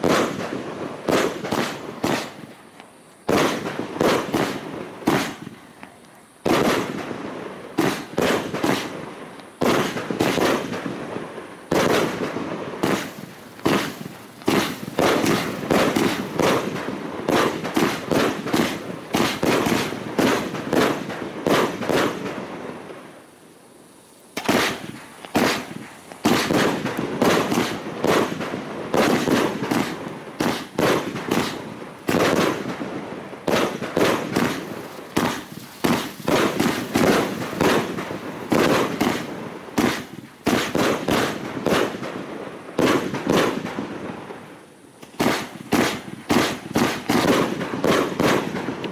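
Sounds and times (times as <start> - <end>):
fireworks firing and bursting: 0.0 - 48.9.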